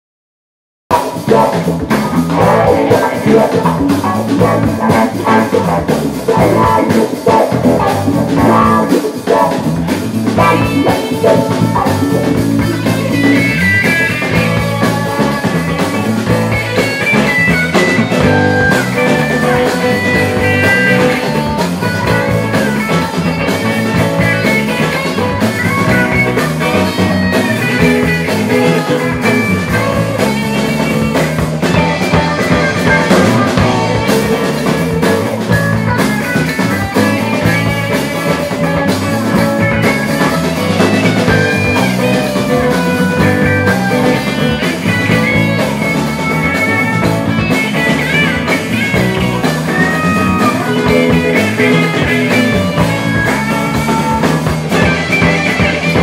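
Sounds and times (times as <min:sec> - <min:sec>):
drum beat: 0:00.9 - 0:56.0
guitar: 0:00.9 - 0:56.0
rock band playing live: 0:00.9 - 0:56.0.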